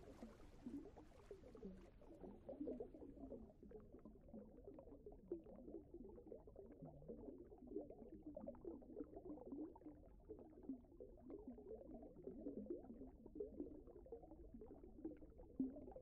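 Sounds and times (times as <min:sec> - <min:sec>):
bubbling gurgling water: 0:00.0 - 0:16.0.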